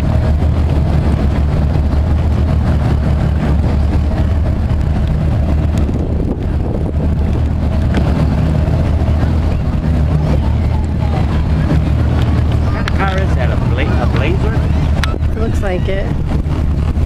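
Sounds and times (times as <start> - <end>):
low engine drone: 0.0 - 17.0
wind buffeting microphone: 0.0 - 17.0.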